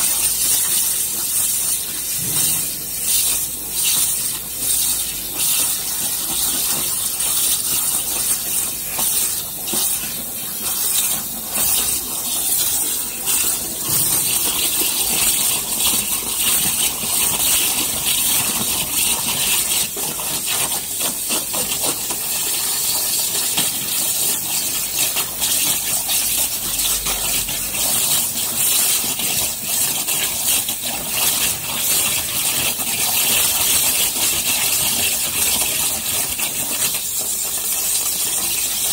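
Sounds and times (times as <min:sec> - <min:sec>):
water jet hissing: 0:00.0 - 0:38.9.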